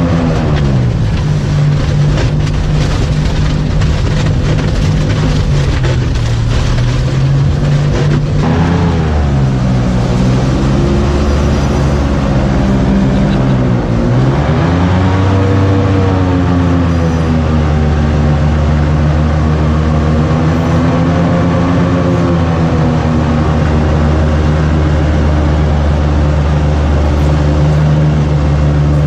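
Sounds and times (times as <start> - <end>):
airboat engine and propeller: 0.0 - 29.0.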